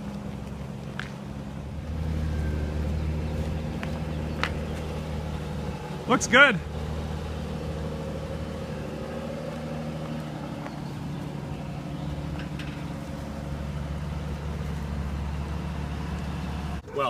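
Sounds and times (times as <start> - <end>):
truck engine running low: 0.0 - 17.0.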